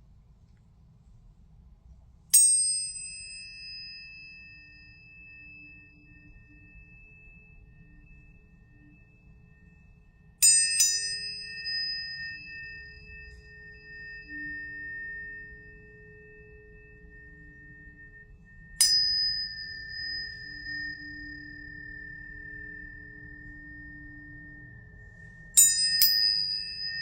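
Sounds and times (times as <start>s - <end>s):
high pure ringing tones: 1.9s - 27.0s
tuning forks struck: 2.4s - 27.0s
steady low hum: 4.3s - 27.0s.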